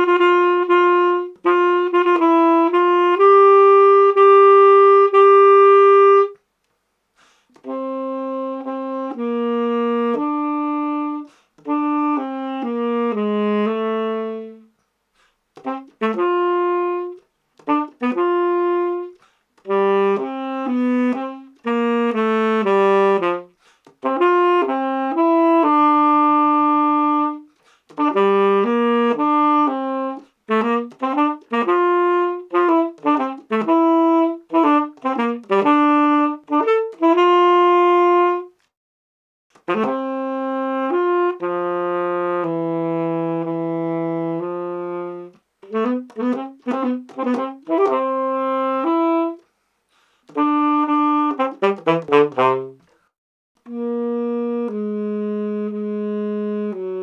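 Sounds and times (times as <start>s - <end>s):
tenor saxophone playing: 0.0s - 6.4s, 7.2s - 38.8s, 39.5s - 57.0s.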